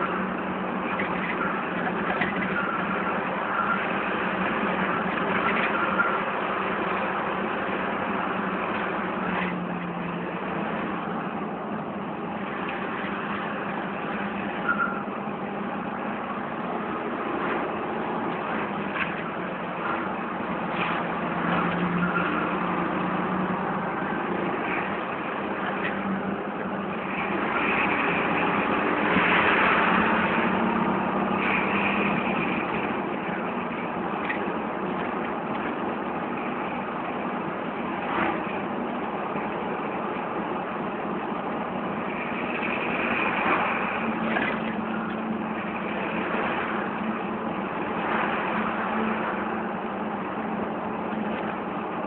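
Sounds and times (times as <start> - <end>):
road noise: 0.0 - 52.0
vehicle engine hum: 0.0 - 52.0.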